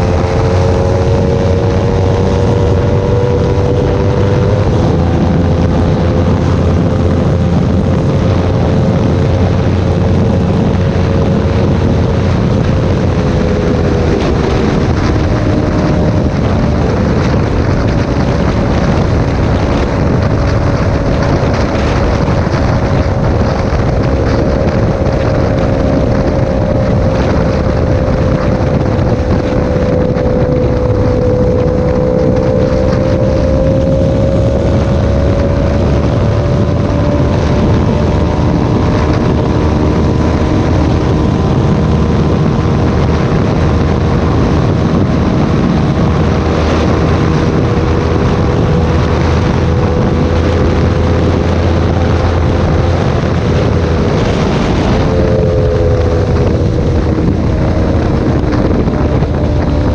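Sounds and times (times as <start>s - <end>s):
motorcycle engine at speed: 0.0s - 59.9s
wind buffeting microphone: 0.0s - 59.9s.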